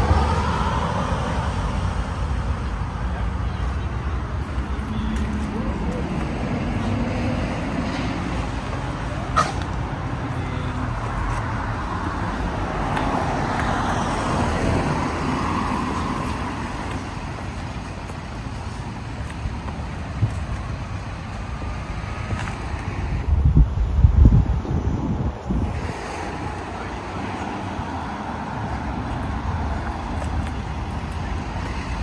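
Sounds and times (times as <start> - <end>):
car passing: 0.0 - 32.0
steady low traffic rumble: 0.0 - 32.0.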